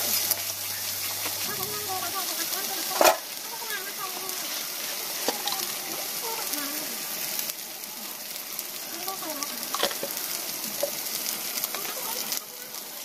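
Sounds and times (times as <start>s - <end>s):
gravy sizzling in pan: 0.0s - 13.0s.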